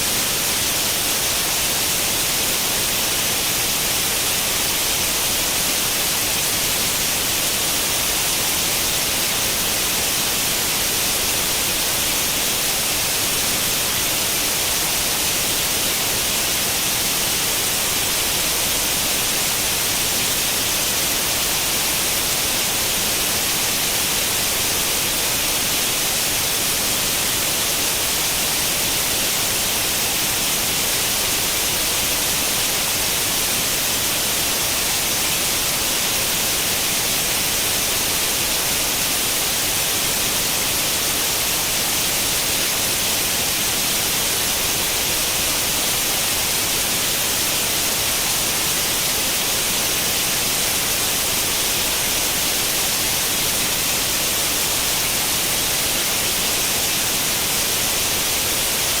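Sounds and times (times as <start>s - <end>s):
white noise static hiss: 0.0s - 59.0s.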